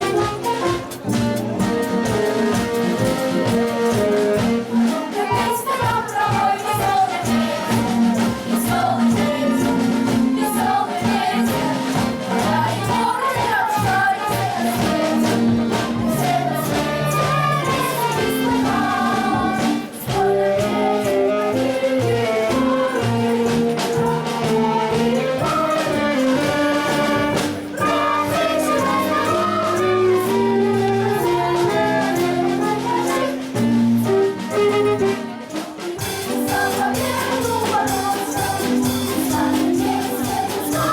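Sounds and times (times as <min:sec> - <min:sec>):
choir singing: 0:00.0 - 0:40.9
instrumental accompaniment with beat: 0:00.0 - 0:40.9.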